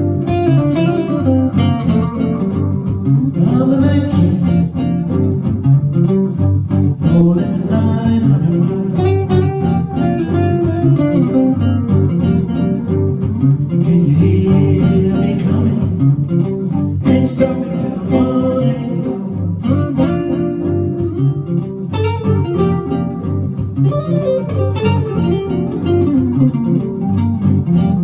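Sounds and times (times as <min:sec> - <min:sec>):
electric guitar blues: 0:00.0 - 0:28.0
low bass line: 0:00.0 - 0:28.0.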